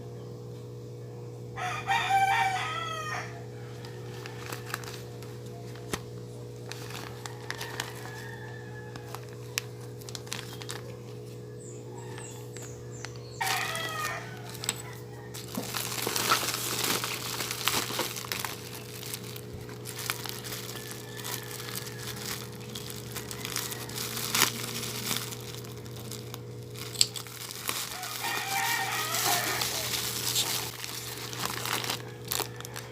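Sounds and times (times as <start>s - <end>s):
steady low hum: 0.0s - 32.9s
rooster crowing: 1.6s - 5.6s, 6.8s - 9.8s, 11.5s - 26.1s, 27.2s - 32.9s
packaging crinkling and rustling: 3.8s - 11.4s, 12.0s - 32.9s.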